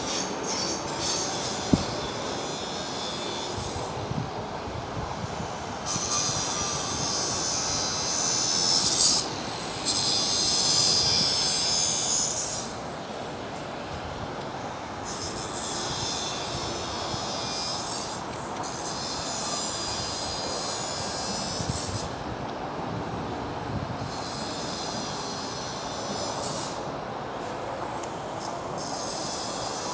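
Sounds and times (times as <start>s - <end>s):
train wheels screeching: 0.0s - 22.3s, 23.4s - 29.9s
rumble of moving train: 0.0s - 29.9s.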